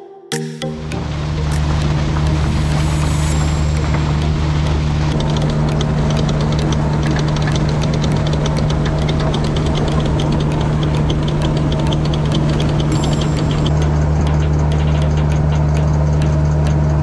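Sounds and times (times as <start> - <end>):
engine hum: 0.8 - 17.0
rapid clicking clatter: 1.4 - 17.0.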